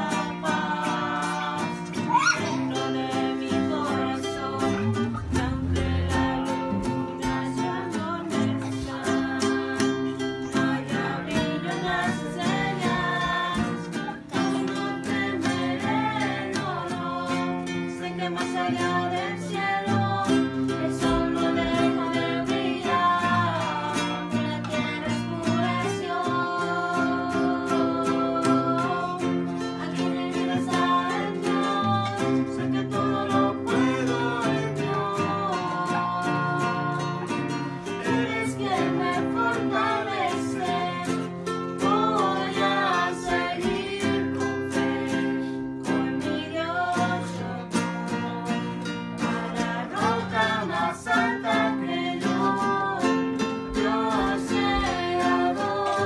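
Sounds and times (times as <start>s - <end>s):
strummed string instrument: 0.0s - 56.0s
woman and girl singing: 0.0s - 56.0s.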